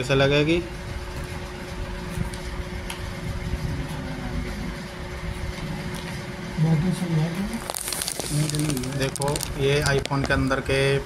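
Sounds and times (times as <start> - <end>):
mechanical hum with low rumble: 0.0 - 11.0.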